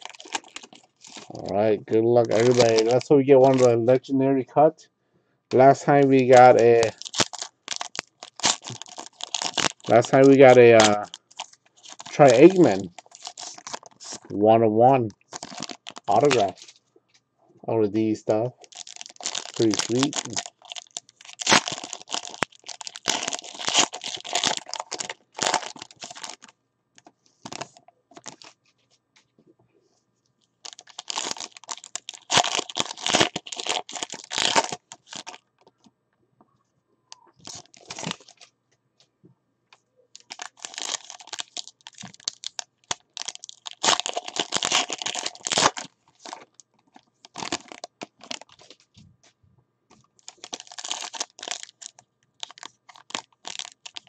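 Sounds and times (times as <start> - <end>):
foil wrappers crinkling and tearing: 0.0 - 3.9, 5.5 - 14.4, 15.1 - 16.8, 18.0 - 28.6, 30.6 - 35.8, 37.4 - 38.5, 40.2 - 48.9, 50.2 - 54.0.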